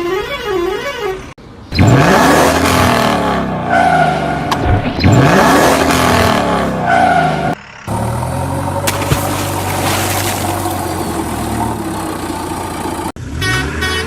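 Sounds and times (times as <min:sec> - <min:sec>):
vehicle engine revving: 0:01.8 - 0:14.0.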